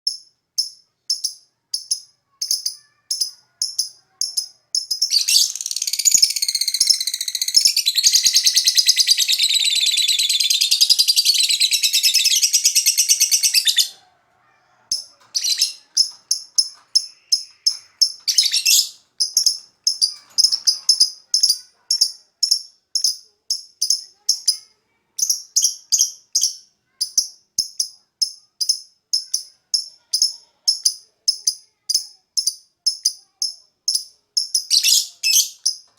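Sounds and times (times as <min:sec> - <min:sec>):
bird trilling song: 0:00.1 - 0:14.0, 0:14.9 - 0:31.4, 0:32.4 - 0:35.9
bird chirping: 0:00.1 - 0:35.9.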